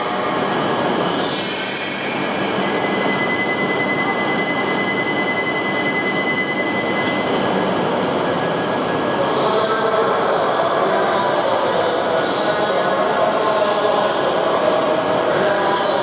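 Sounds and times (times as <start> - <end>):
high train whine: 0.0 - 16.0
train running noise: 0.0 - 16.0.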